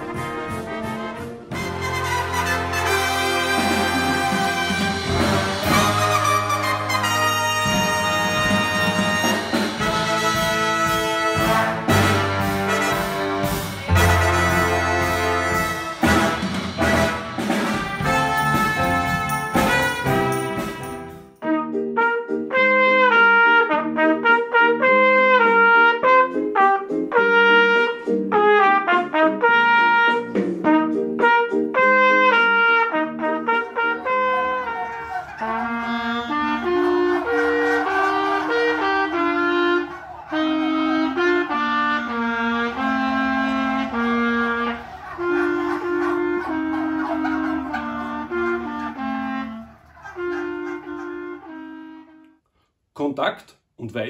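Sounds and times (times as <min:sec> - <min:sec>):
big band playing: 0:00.0 - 0:51.8
solo trumpet melody: 0:00.0 - 0:52.4.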